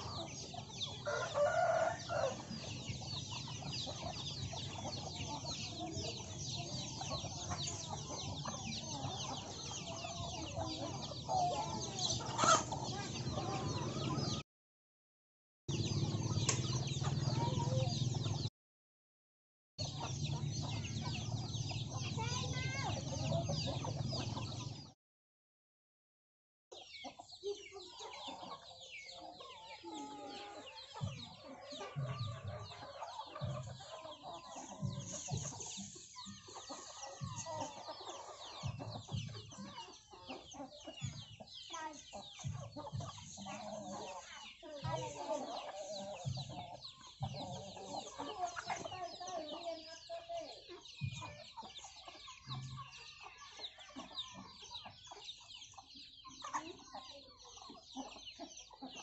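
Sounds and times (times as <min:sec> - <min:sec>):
chicks peeping: 0:00.0 - 0:14.4, 0:15.7 - 0:18.5, 0:19.8 - 0:24.9, 0:26.7 - 0:59.0
hens clucking: 0:00.0 - 0:14.4, 0:15.7 - 0:18.5, 0:26.7 - 0:59.0.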